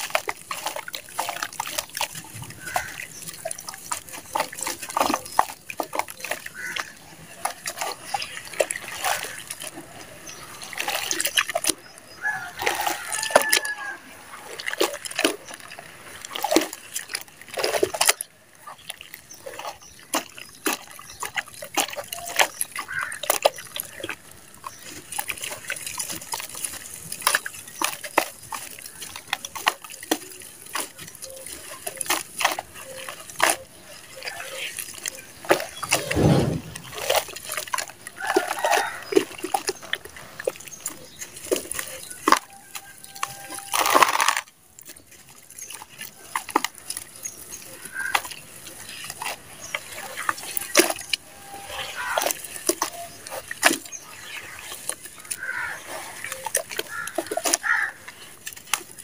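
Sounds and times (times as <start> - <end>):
hands squelching wet mud: 0.0 - 59.0
muddy water sloshing and splashing: 0.0 - 59.0.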